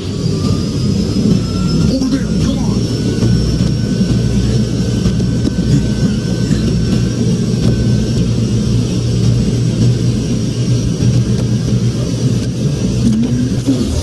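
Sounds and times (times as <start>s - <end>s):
high engine whine: 0.0s - 14.0s
jet engines rumbling: 0.0s - 14.0s.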